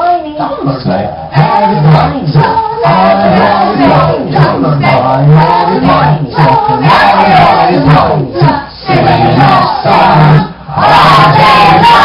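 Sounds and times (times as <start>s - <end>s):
voices singing and chanting: 0.0s - 12.0s.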